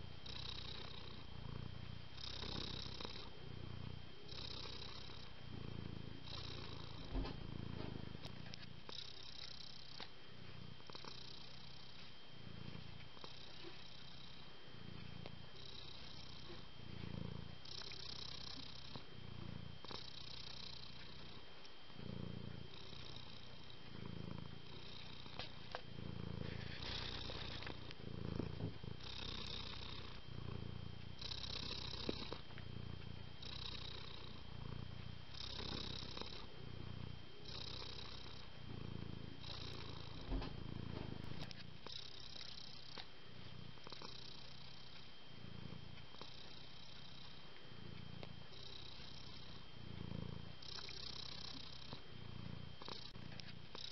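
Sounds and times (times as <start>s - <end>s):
cat purring: 0.0s - 53.9s.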